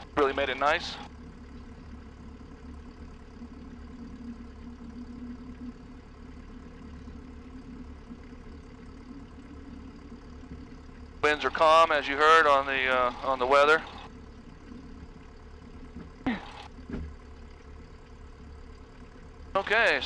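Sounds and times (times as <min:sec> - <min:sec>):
piston aircraft engine droning: 0:00.0 - 0:20.0.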